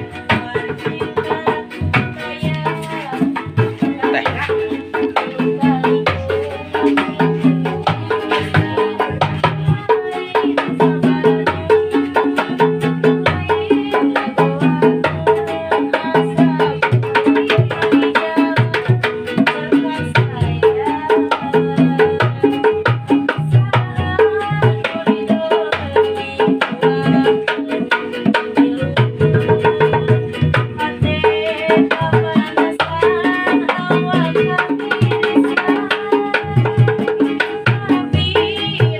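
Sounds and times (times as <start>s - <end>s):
hand drum percussion: 0.0s - 38.9s.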